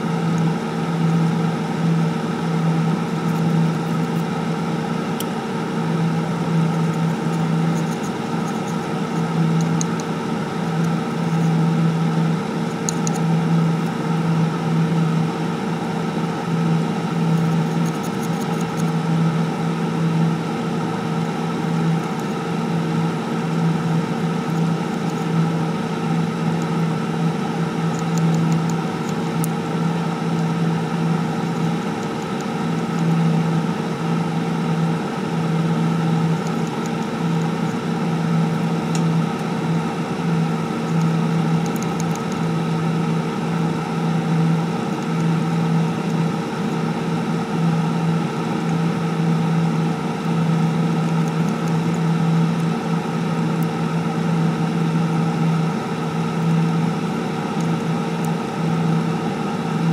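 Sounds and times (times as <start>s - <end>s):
electrical hum and whir: 0.0s - 59.9s.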